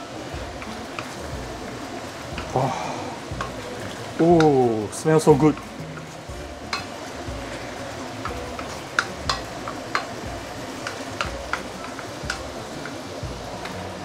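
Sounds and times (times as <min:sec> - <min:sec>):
food sizzling in a wok: 0:00.0 - 0:14.0
spatula tapping against pan: 0:00.4 - 0:01.6, 0:02.2 - 0:02.6, 0:03.2 - 0:13.9.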